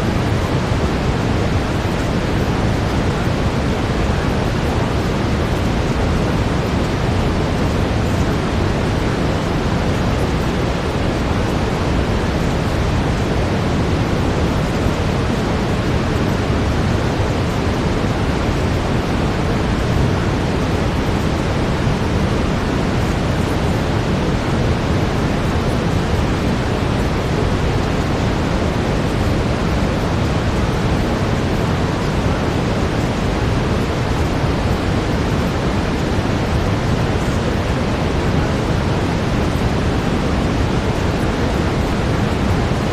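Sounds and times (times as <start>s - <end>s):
brown noise hiss: 0.0s - 42.9s.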